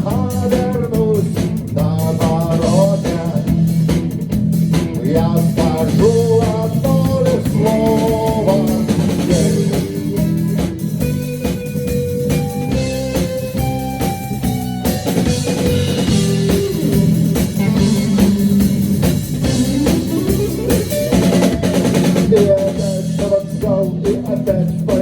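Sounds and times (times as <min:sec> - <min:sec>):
drum kit beat: 0:00.0 - 0:25.0
rock band playing: 0:00.0 - 0:25.0.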